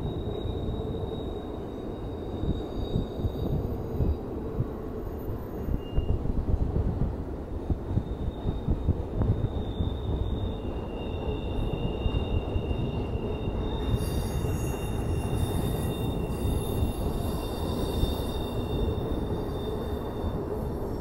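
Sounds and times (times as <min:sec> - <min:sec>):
high wheel squeal: 0:00.0 - 0:04.3, 0:05.1 - 0:06.3, 0:07.9 - 0:21.0
train rumbling on steel bridge: 0:00.0 - 0:21.0.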